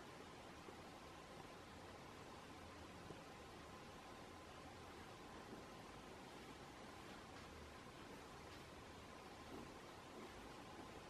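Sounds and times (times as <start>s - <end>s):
faint steady hiss: 0.0s - 11.0s
faint steady hum: 0.0s - 11.0s.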